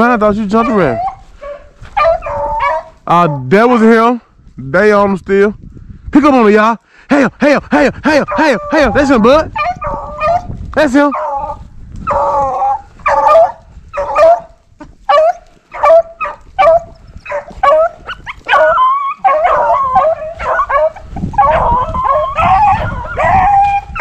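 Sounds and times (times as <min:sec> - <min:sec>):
hounds baying: 0:00.0 - 0:04.1, 0:08.0 - 0:24.0.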